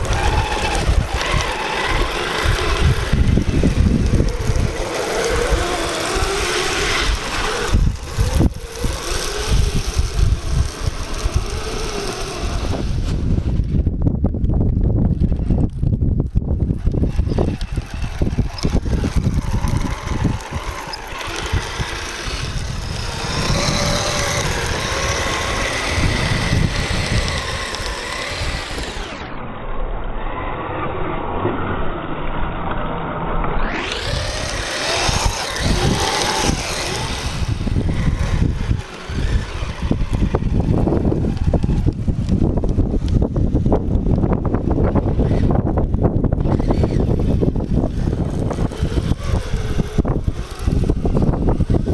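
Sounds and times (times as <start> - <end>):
electric motor whining: 0.0 - 13.8, 16.6 - 29.4, 33.6 - 51.9
wind on microphone: 0.0 - 51.9.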